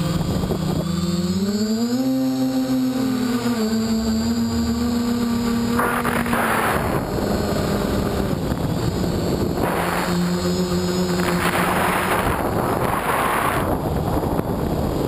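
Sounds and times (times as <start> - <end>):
quadcopter motors whining: 0.0 - 15.0
wind noise on microphone: 0.0 - 15.0.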